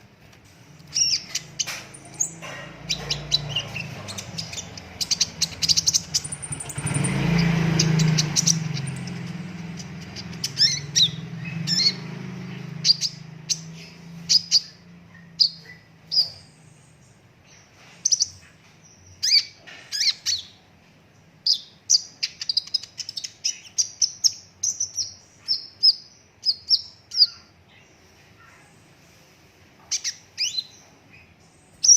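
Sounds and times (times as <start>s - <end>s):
sunbird high chirps and trills: 0.8s - 20.7s, 21.4s - 29.1s, 29.8s - 31.9s.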